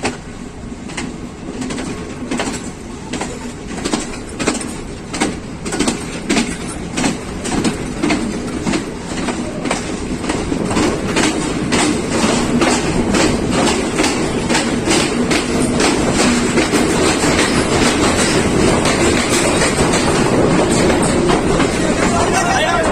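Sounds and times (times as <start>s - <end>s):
train carriages rumbling: 0.0s - 22.9s
wheels clacking over rail joints: 0.0s - 22.9s.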